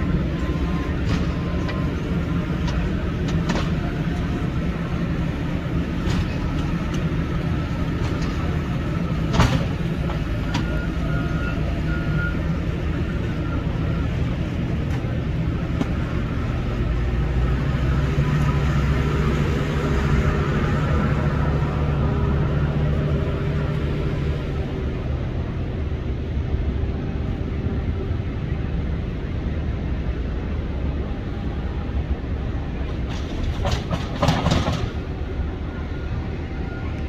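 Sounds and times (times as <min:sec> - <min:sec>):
heavy machinery engines running: 0:00.0 - 0:37.0.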